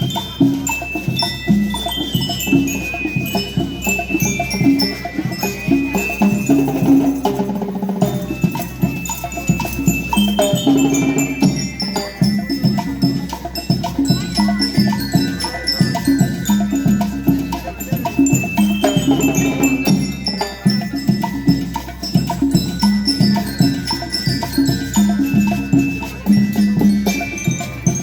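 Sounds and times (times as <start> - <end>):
bell lyres ringing melody: 0.0 - 28.0
steady drum beat: 0.0 - 28.0.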